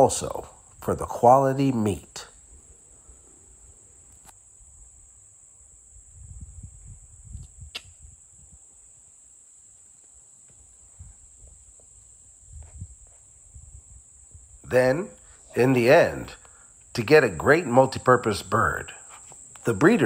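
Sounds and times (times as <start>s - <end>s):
crickets droning: 0.0s - 20.0s.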